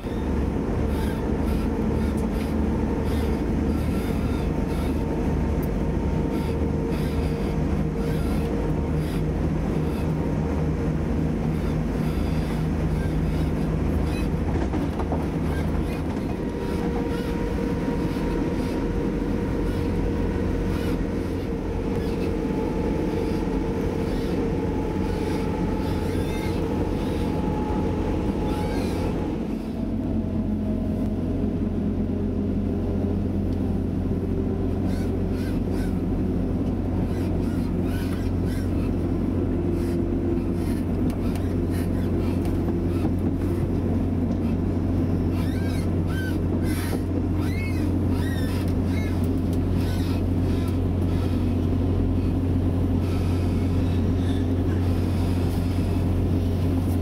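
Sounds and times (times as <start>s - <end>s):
droning drivetrain tone: 0.0s - 57.0s
train rumbling on rails: 0.0s - 57.0s.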